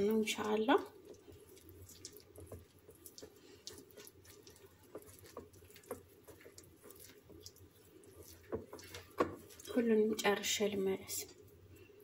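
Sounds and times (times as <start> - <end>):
hand kneading wet dough: 0.0 - 12.0.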